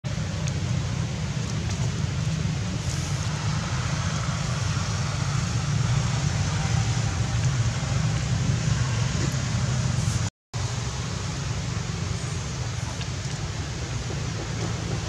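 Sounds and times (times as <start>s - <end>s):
even hiss: 2.1s - 15.0s.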